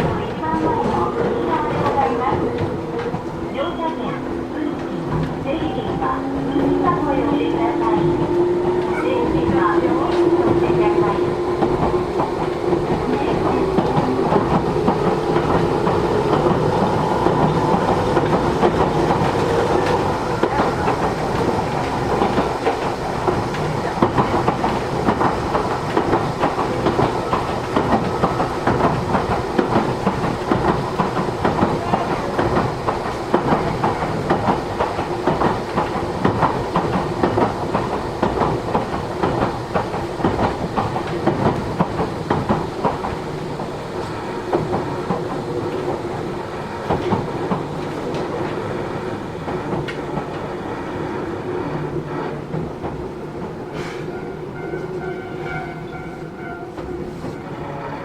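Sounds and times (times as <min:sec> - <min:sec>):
train rolling noise: 0:00.0 - 0:58.0.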